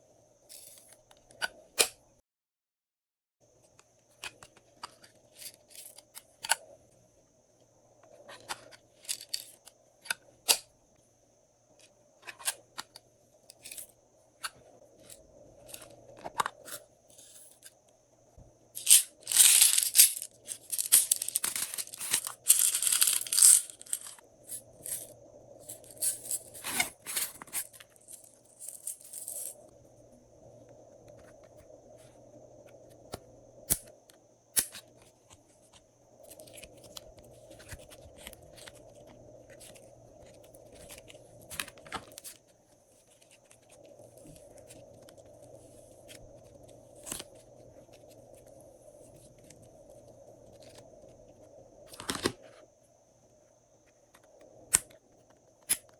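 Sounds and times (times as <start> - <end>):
faint steady hum: 3.4 - 55.9.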